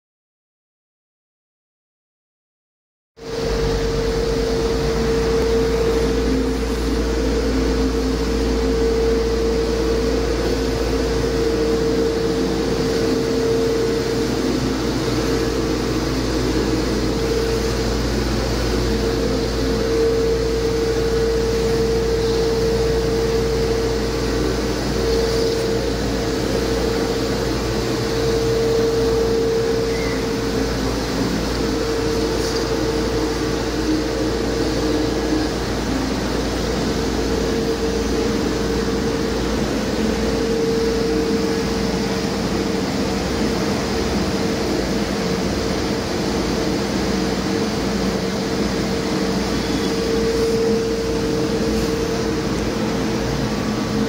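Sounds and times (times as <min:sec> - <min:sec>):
diesel engine running: 0:03.2 - 0:54.0
steady whine: 0:03.2 - 0:54.0.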